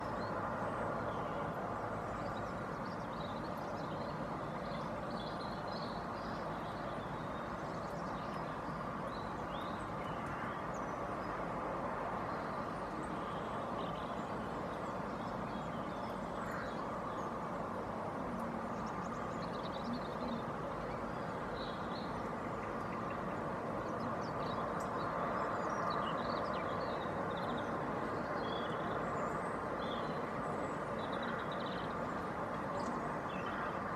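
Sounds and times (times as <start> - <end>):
distant road traffic hum: 0.0 - 33.9.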